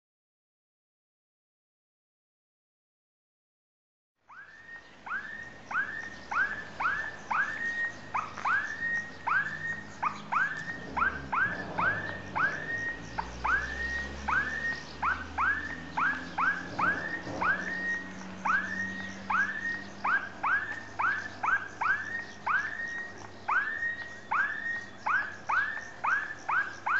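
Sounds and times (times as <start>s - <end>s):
animal squeaky calls: 4.6s - 26.9s.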